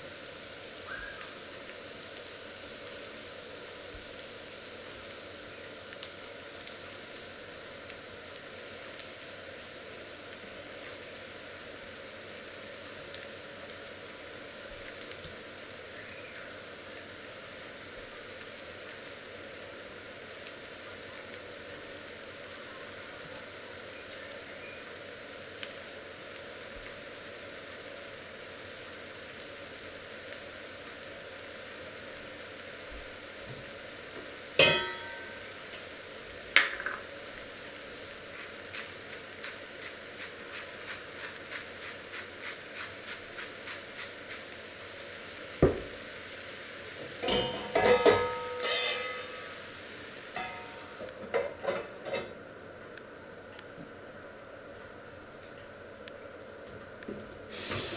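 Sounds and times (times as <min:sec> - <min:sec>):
onions sizzling in a pan: 0:00.0 - 0:57.9.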